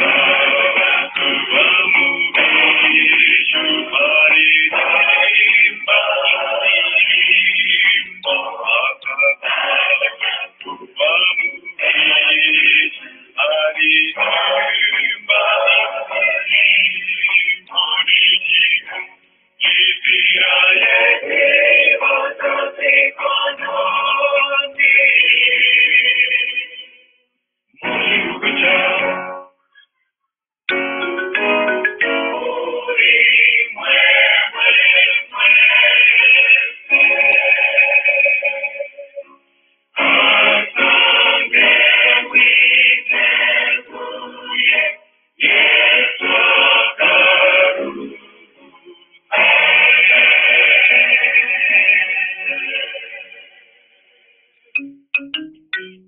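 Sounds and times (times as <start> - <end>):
music with singing: 0.0 - 27.2, 27.8 - 30.0, 30.7 - 56.0.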